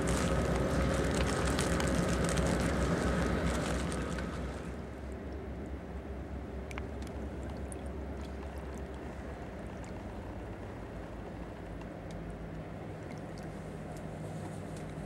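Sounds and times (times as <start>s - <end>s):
distant train engine rumble: 0.0s - 15.0s.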